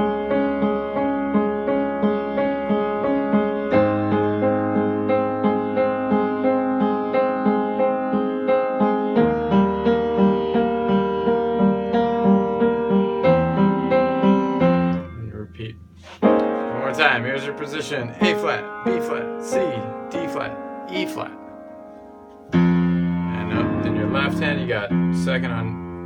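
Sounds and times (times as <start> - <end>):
piano playing repeated chords: 0.0 - 26.0.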